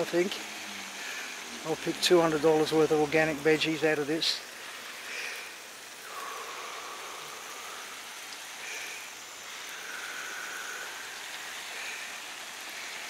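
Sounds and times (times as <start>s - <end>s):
water spraying on mulch: 0.0s - 13.0s.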